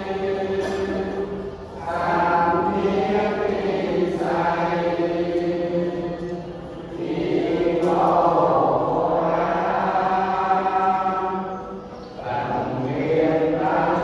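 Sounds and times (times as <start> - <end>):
group of voices chanting: 0.0 - 14.0.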